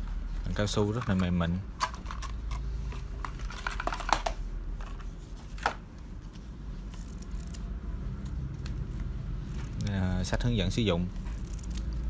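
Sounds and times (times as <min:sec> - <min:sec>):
handling clicks and rustles: 0:00.0 - 0:12.0.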